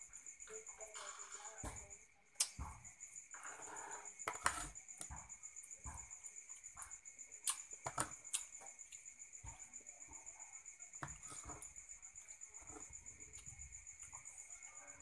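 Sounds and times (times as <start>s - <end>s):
soft chewing: 0.5s - 15.0s.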